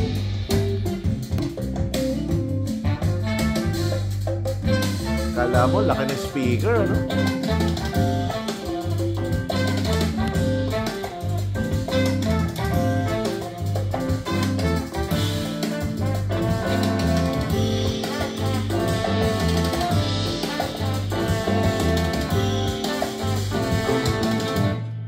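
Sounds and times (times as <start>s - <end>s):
music with strong bass from loudspeakers: 0.0s - 25.0s.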